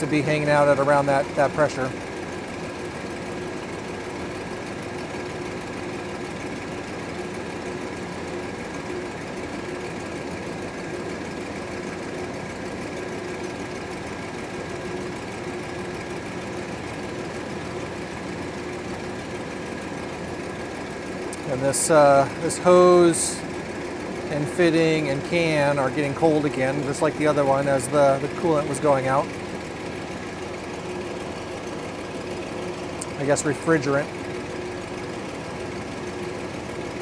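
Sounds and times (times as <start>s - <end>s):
air-conditioning compressor running: 0.0s - 37.0s
engine idling: 0.0s - 37.0s.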